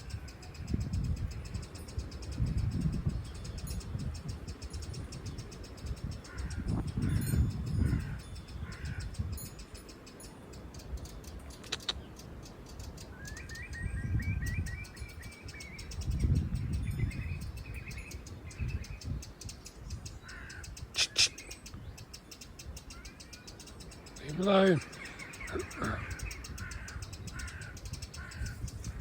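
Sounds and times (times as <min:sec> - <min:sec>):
wren ticking alarm call: 0:00.0 - 0:29.0.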